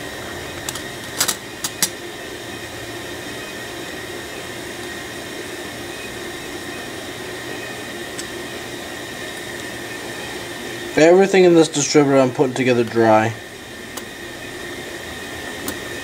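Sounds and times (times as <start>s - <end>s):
background hum and hiss: 0.0s - 16.0s
faint high whine: 0.0s - 16.0s.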